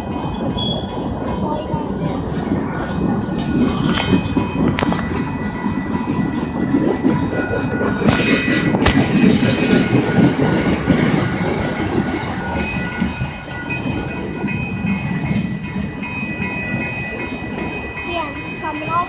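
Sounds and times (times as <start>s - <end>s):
train wheels rumbling on rails: 0.0s - 19.0s
wheels clickety-clack: 0.0s - 19.0s.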